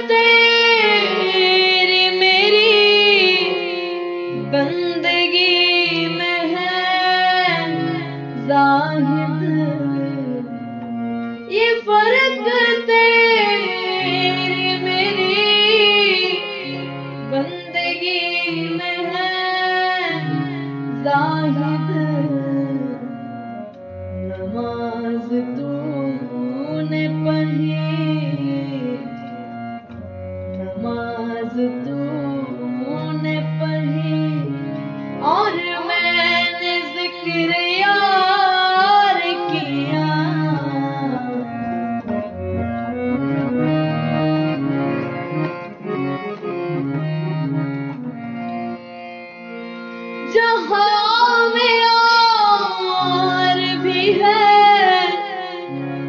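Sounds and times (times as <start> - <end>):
instrumental melody: 0.0 - 56.0.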